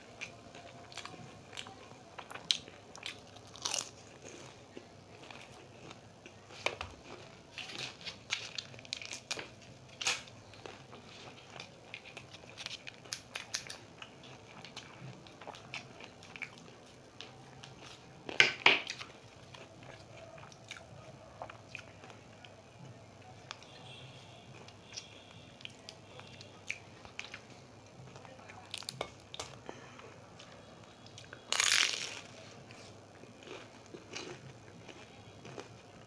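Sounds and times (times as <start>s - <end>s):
crunching crispy pastry: 0.0s - 36.0s.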